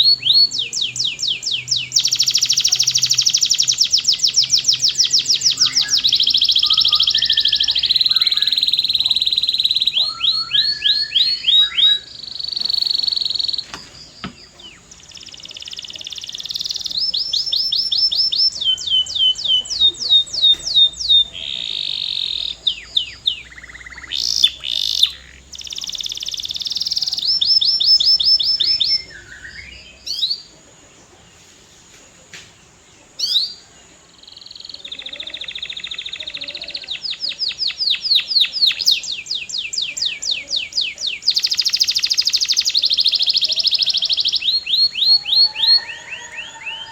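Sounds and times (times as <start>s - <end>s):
canary singing trills: 0.0s - 31.3s, 33.0s - 46.9s.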